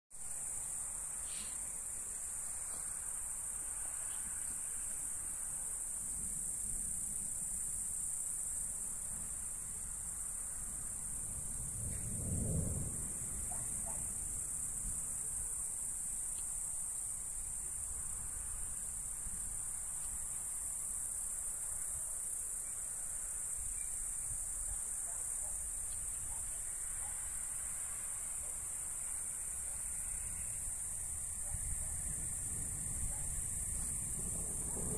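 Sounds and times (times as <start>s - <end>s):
crickets chirring: 0.2s - 34.9s.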